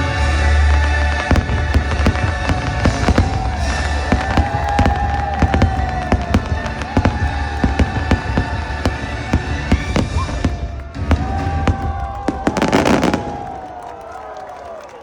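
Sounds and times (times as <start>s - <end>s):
orchestral music over loudspeakers: 0.0s - 13.3s
fireworks bursting with low booms: 0.0s - 13.9s
dense crackling firework burst: 0.2s - 14.5s.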